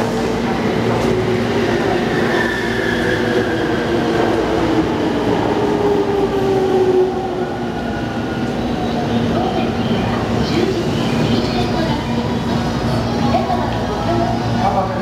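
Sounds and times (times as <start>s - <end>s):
electric train rumbling with whine: 0.0s - 15.0s.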